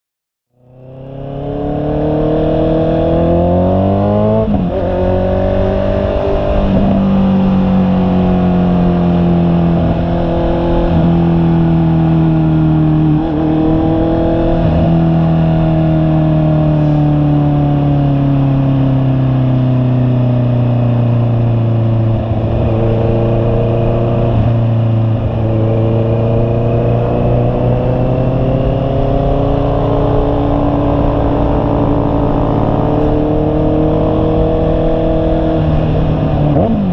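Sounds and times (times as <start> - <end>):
motorcycle engine revving: 0.5 - 36.9.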